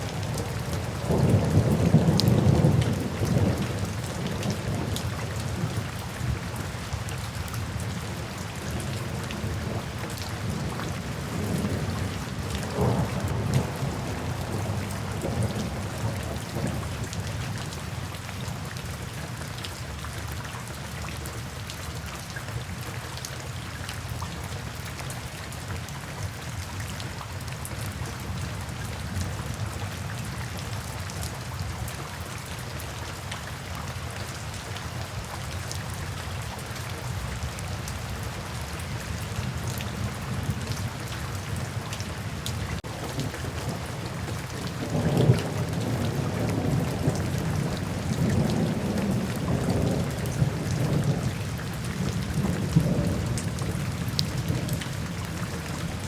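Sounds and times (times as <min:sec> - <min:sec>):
raindrops striking close by: 0:00.0 - 0:56.0
steady rain falling: 0:00.0 - 0:56.0.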